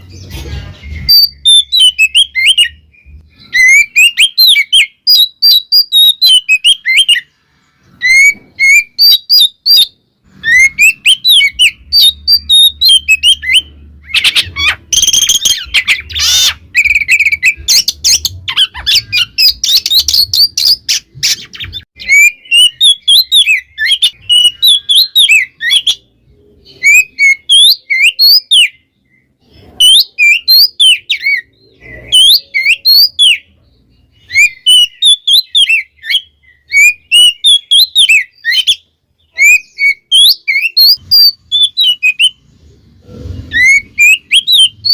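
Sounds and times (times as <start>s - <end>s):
bird singing chirps and whistles: 0.8s - 7.3s, 7.9s - 42.4s, 43.5s - 44.9s.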